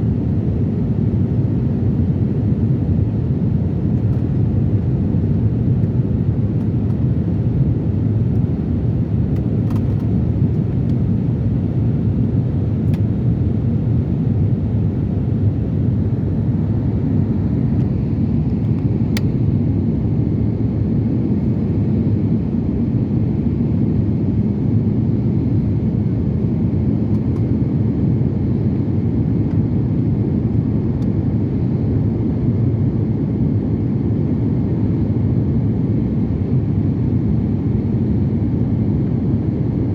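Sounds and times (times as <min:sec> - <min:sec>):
airliner cabin engine noise: 0:00.0 - 0:39.9.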